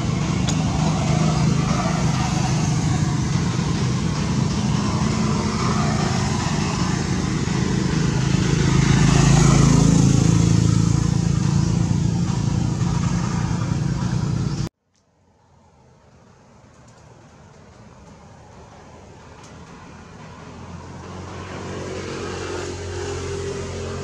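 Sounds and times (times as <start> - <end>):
vehicle engine humming: 0.0 - 14.7, 15.8 - 24.0.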